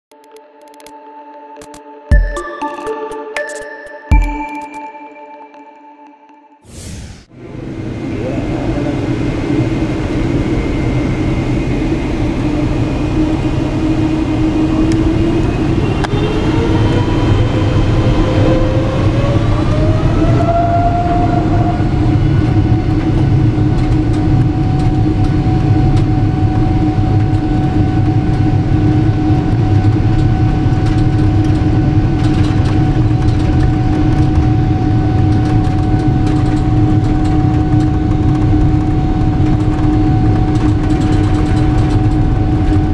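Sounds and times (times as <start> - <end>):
jet engine spooling up: 6.6 - 42.9
cabin rumble: 7.3 - 42.9.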